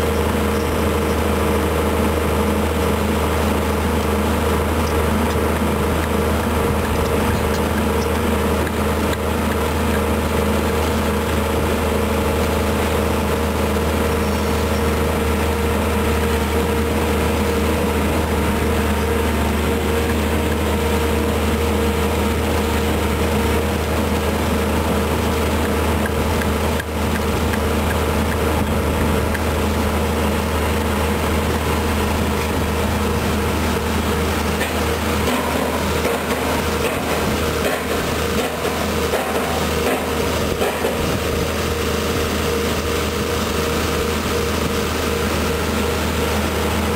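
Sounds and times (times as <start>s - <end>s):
excavator diesel engine droning: 0.0s - 46.9s.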